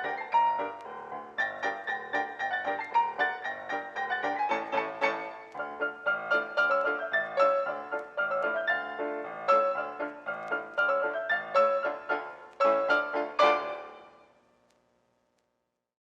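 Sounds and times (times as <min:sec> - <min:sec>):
piano notes and chords: 0:00.0 - 0:14.3.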